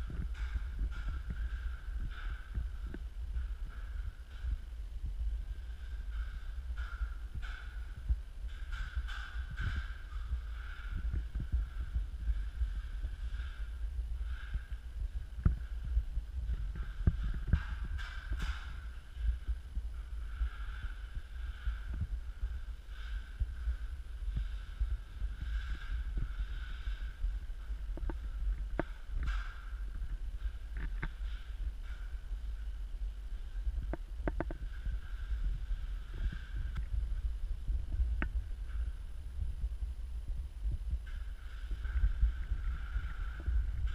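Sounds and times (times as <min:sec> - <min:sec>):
low rumble: 0:00.0 - 0:43.9.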